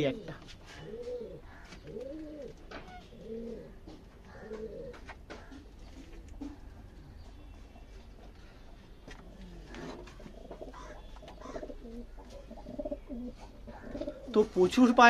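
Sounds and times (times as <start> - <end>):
pigeons cooing: 0.0 - 14.6.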